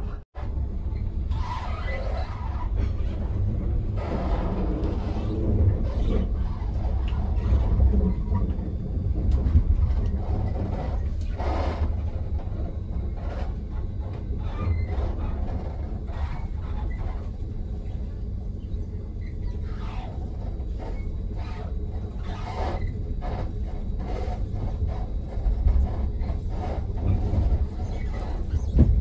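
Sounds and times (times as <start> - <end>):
train rumble from inside: 0.0 - 29.0.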